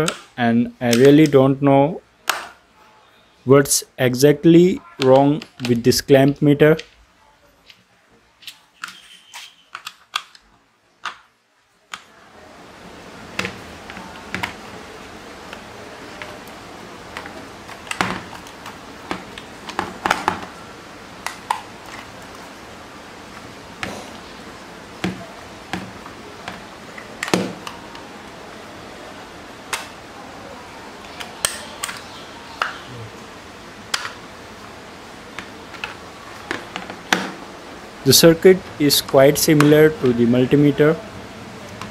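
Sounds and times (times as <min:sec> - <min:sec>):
steady hiss: 0:03.2 - 0:09.6, 0:10.6 - 0:41.9.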